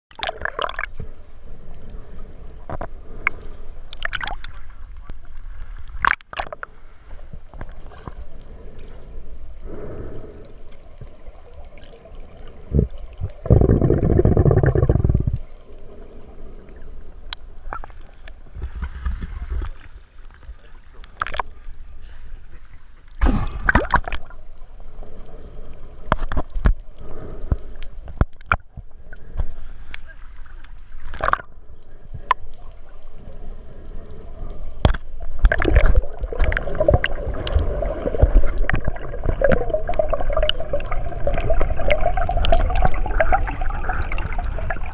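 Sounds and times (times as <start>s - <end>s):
muffled underwater water gurgling: 0.1s - 44.9s.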